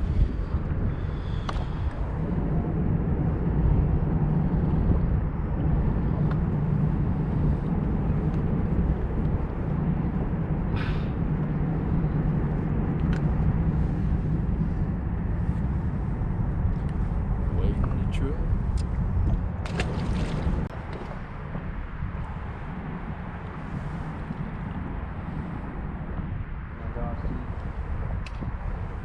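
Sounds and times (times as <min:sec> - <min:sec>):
boat motor droning: 0:00.0 - 0:26.2.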